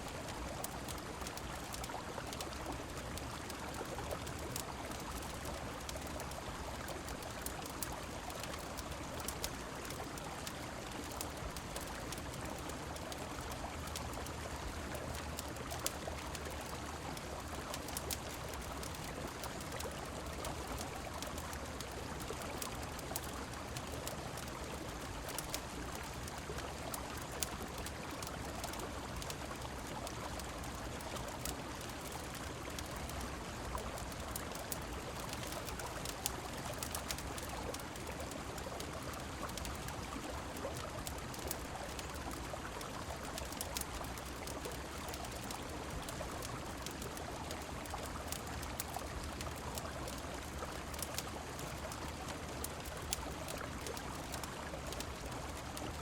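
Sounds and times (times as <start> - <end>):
rain: 0.0 - 56.0
wood fire crackling: 0.1 - 56.0.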